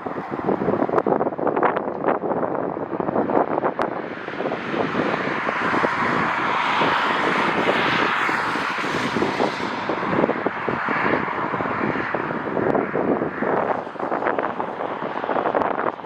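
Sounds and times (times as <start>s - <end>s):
jet engines roaring: 0.0s - 16.0s
wind buffeting microphone: 0.0s - 16.0s.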